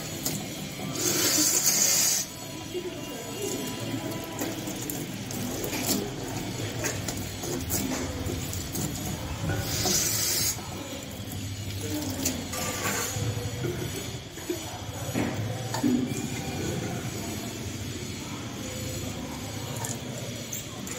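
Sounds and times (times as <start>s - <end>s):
water gushing and splashing: 0.0s - 17.6s.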